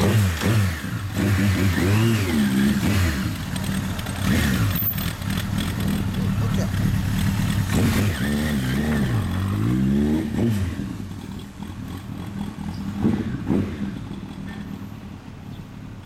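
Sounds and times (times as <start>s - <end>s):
motorcycle engine revving: 0.0s - 15.6s.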